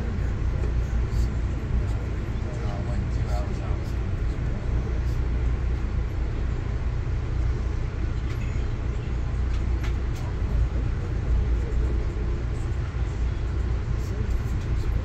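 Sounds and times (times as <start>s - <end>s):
train rumble from inside coach: 0.0s - 15.0s.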